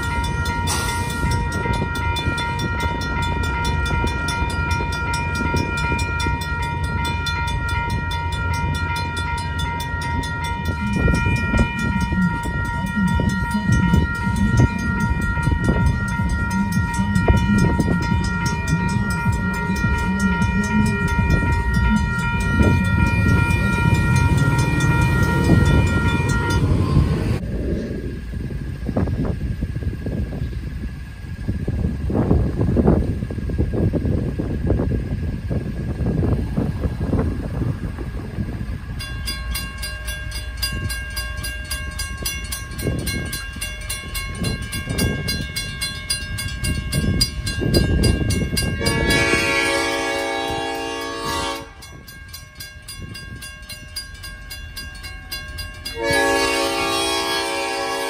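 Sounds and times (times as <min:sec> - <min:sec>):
railroad crossing bell ringing: 0:00.0 - 0:58.0.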